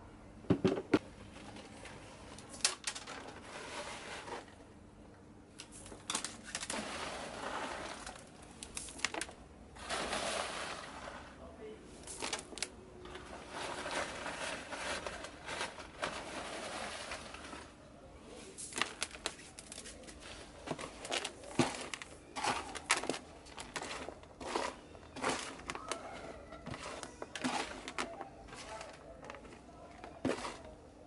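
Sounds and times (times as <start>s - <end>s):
gravel scraping in plastic tray: 1.3s - 4.6s, 5.7s - 11.4s, 12.0s - 17.8s, 18.4s - 30.8s.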